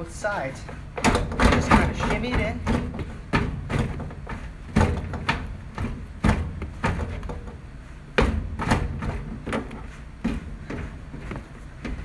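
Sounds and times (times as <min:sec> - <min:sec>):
thumps and knocks: 0:00.9 - 0:12.0.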